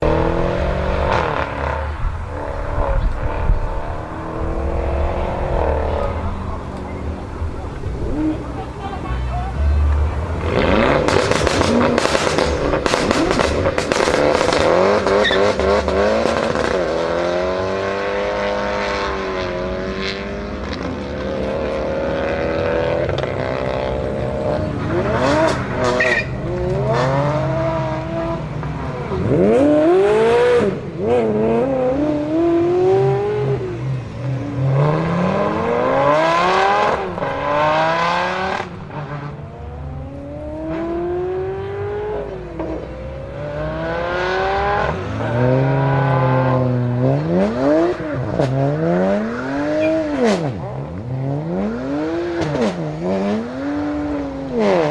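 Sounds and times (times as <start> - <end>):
car engine revving: 0.0 - 54.9
tires squealing: 0.0 - 54.9.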